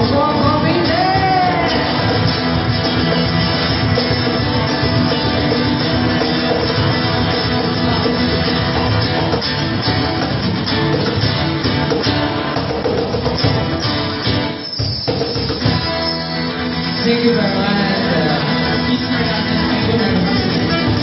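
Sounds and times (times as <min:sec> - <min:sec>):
guitar: 0:00.0 - 0:21.0
live band playing: 0:00.0 - 0:21.0.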